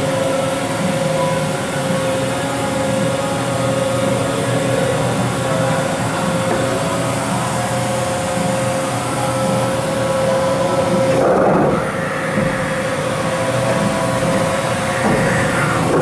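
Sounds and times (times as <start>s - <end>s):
coolant spray hiss: 0.0s - 16.0s
spindle whine: 0.0s - 16.0s.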